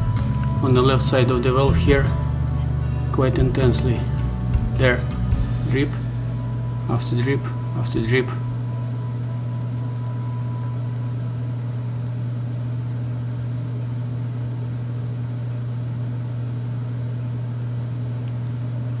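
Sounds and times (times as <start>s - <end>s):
filter pump motor humming: 0.0s - 19.0s.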